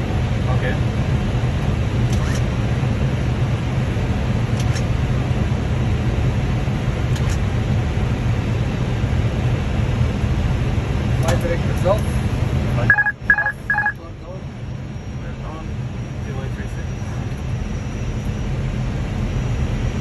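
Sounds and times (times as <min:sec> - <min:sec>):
cockpit airflow and engine noise: 0:00.0 - 0:20.0.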